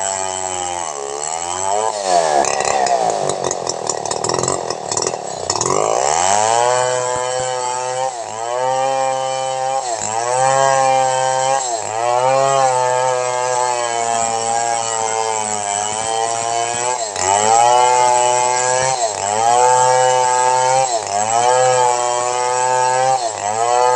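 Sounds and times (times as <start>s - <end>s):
chainsaw running at high revs: 0.0s - 23.9s.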